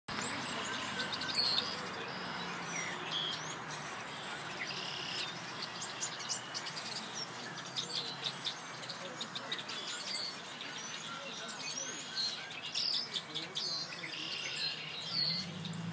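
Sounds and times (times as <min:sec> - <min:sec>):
flock of birds chirping: 0:00.1 - 0:15.9.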